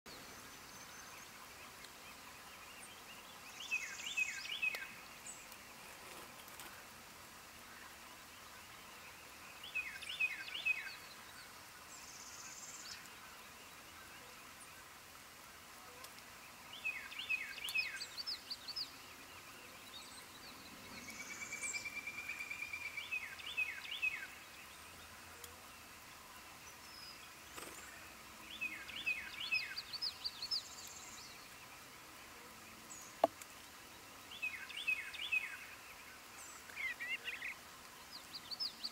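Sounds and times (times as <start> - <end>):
songbird phrase: 0.1 - 38.9.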